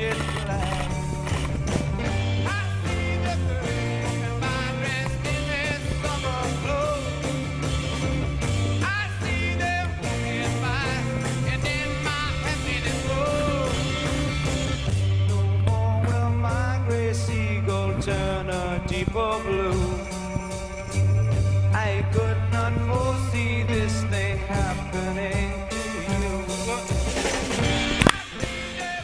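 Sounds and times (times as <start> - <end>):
rock music with singing: 0.0 - 29.0.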